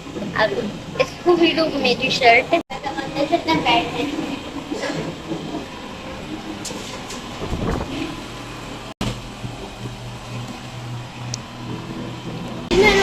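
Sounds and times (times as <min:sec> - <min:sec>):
restaurant room hum: 0:00.0 - 0:13.0.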